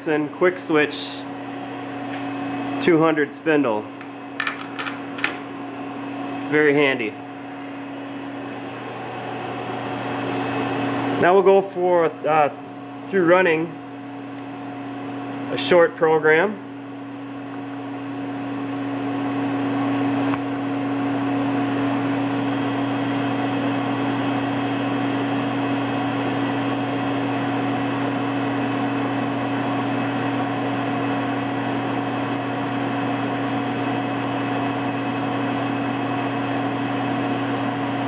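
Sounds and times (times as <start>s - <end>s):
milling machine humming: 0.0s - 16.0s, 16.6s - 38.0s.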